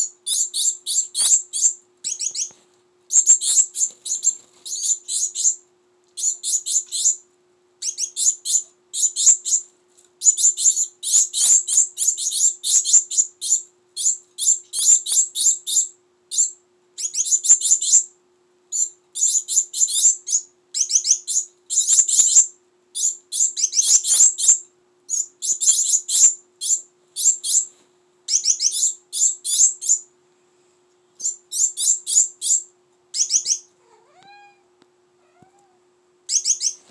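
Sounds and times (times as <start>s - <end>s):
finch chicks begging chirps: 0.0s - 5.6s, 6.2s - 7.2s, 7.8s - 18.1s, 18.7s - 27.7s, 28.3s - 30.1s, 31.2s - 34.6s, 36.3s - 36.9s
faint steady hum: 0.0s - 36.9s.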